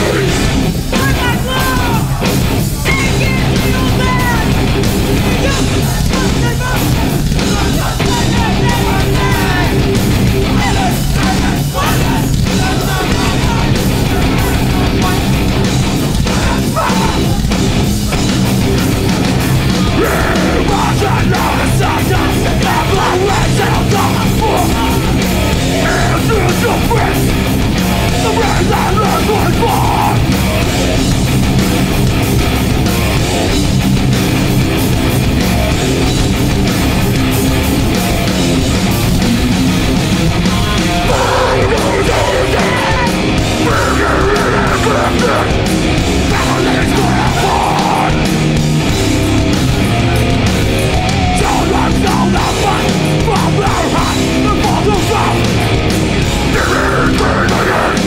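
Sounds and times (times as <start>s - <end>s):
shouted vocals: 0.0s - 31.0s, 40.4s - 48.6s, 49.8s - 58.0s
bass guitar: 0.0s - 58.0s
distorted electric guitars: 0.0s - 58.0s
drums: 0.0s - 58.0s.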